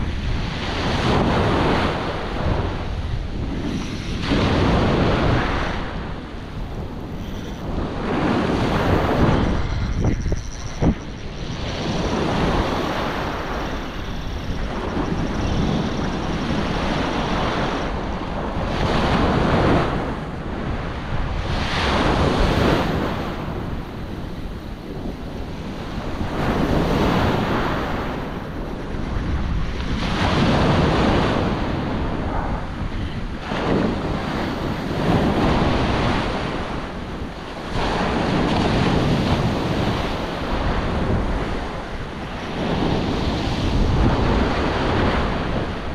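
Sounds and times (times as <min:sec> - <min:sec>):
surf breaking on beach: 0:00.0 - 0:10.2, 0:10.8 - 0:45.9
wind buffeting microphone: 0:00.0 - 0:45.9.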